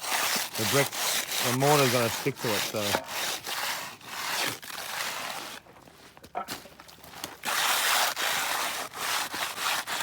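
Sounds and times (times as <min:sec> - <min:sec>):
trowel scraping concrete: 0:00.0 - 0:05.6, 0:07.4 - 0:10.0.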